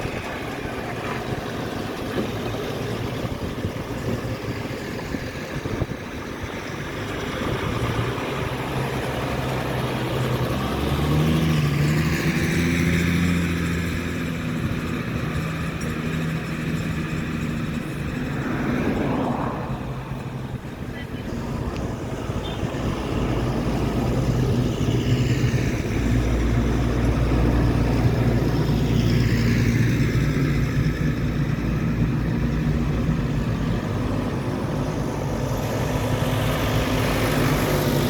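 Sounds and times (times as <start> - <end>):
engine humming: 0.0 - 38.0
vehicles passing on road: 0.0 - 38.0.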